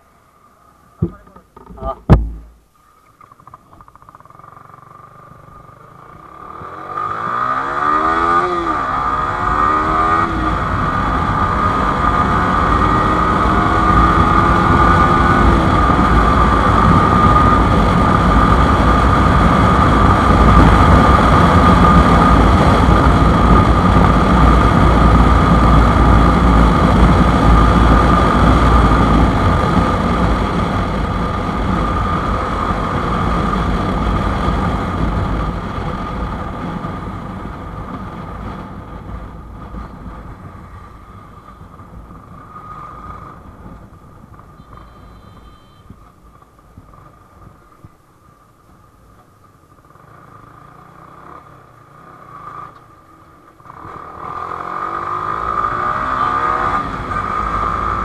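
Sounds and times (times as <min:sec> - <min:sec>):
motorcycle accelerating through gears: 0:03.8 - 0:47.9, 0:49.7 - 0:58.0.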